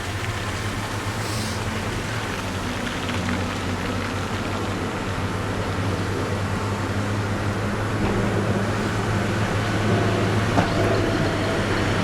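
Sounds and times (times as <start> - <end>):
tyres hissing in slush: 0.0 - 7.4, 8.5 - 12.0
low engine hum: 0.0 - 12.0.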